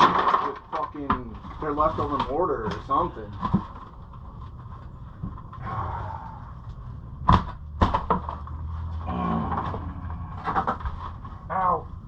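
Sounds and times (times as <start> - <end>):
demolition scraping: 0.0 - 12.0.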